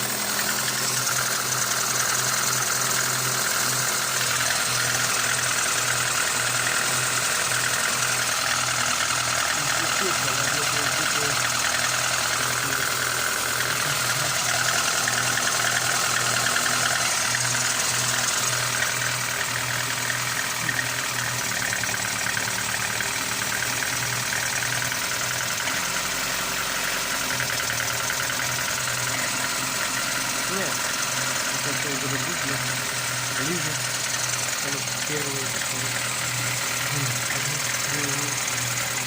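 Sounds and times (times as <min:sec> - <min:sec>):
car engine idling with knock: 0:00.0 - 0:39.0.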